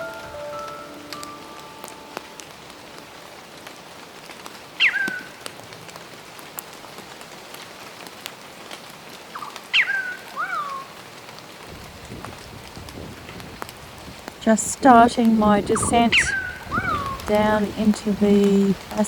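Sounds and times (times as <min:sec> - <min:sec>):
steady rain: 0:00.0 - 0:19.0
raindrop ticks: 0:00.1 - 0:19.0.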